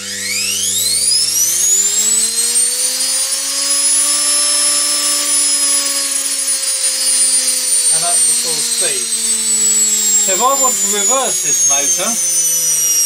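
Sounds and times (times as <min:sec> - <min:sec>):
washing machine motor whine: 0:00.0 - 0:13.0.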